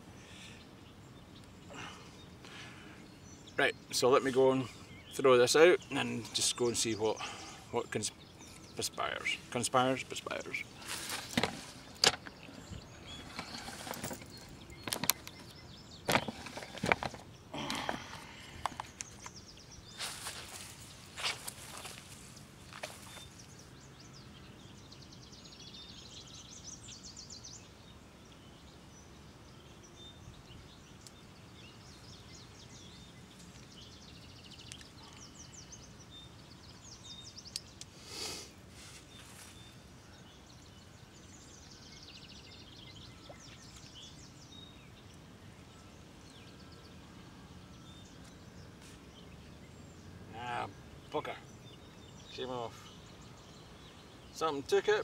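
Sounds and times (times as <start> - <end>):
birds singing fast high trills: 0.0 - 55.0
low outdoor background noise: 0.0 - 55.0.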